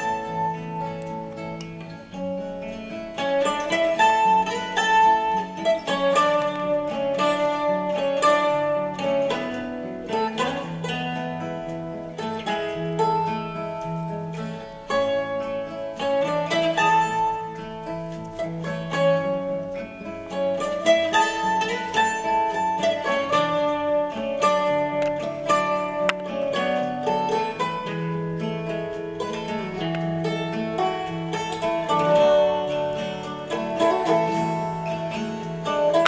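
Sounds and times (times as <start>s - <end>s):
plucked string music: 0.0s - 36.0s.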